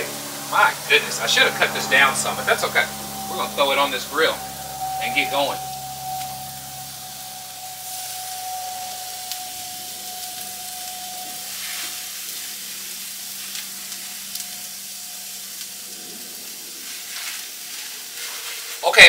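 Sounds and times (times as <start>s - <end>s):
faint steady tone: 0.0s - 18.3s
steak sizzling on a grill: 0.0s - 19.0s.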